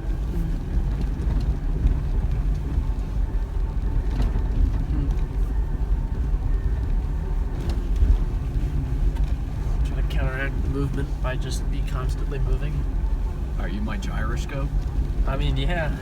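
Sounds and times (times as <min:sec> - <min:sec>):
engine and tyres rumbling on gravel: 0:00.0 - 0:16.0.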